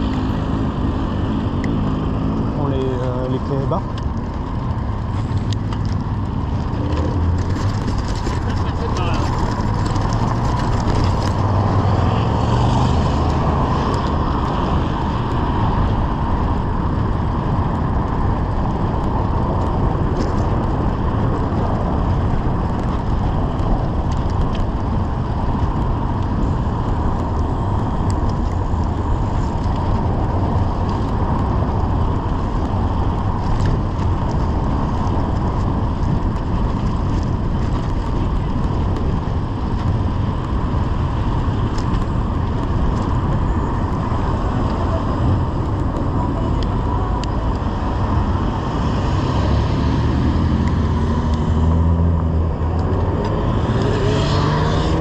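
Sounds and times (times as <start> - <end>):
bicycle tyre noise: 0.0 - 51.8
car traffic: 0.0 - 55.0.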